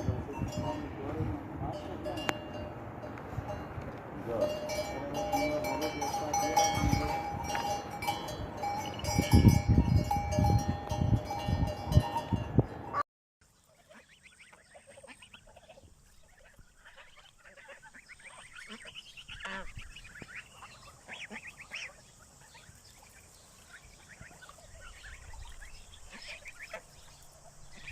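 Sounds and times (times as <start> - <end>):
geese and ducks calling: 0.0 - 9.5, 13.6 - 27.9.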